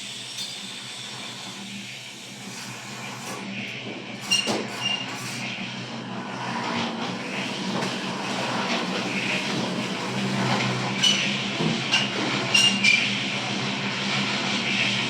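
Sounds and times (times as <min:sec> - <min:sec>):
concrete mixer running: 0:00.0 - 0:15.0.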